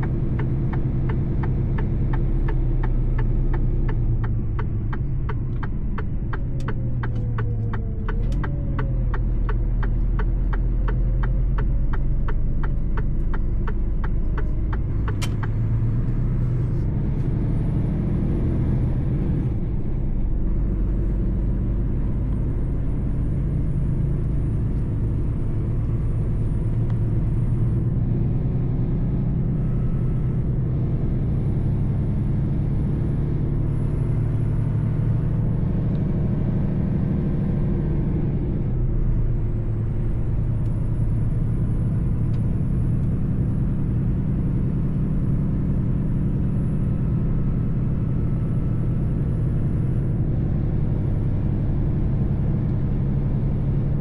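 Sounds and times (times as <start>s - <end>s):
road rumble: 0.0s - 54.0s
truck engine drone: 0.0s - 54.0s.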